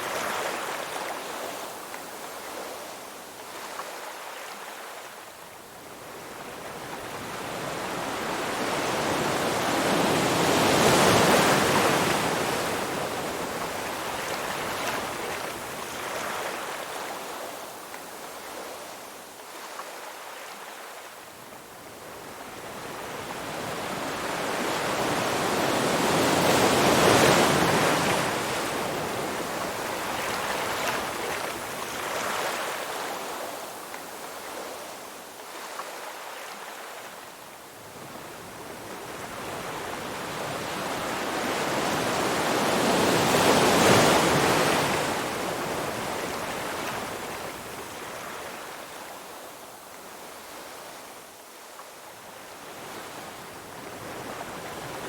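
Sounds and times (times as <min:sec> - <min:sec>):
ocean waves breaking on shore: 0:00.0 - 0:51.3.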